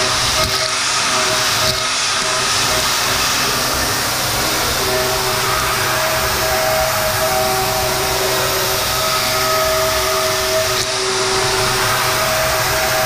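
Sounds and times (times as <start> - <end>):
milling machine cutting steel: 0.0 - 13.0.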